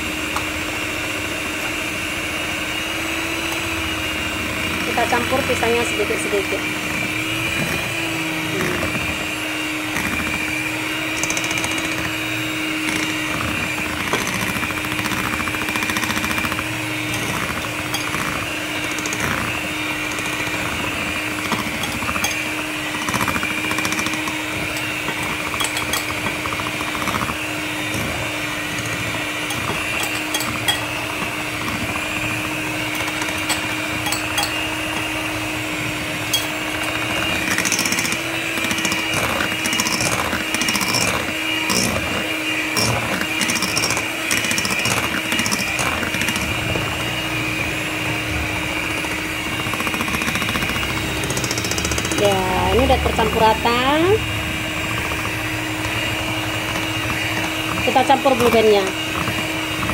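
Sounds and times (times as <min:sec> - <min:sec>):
electric hand mixer running: 0:00.0 - 0:59.9.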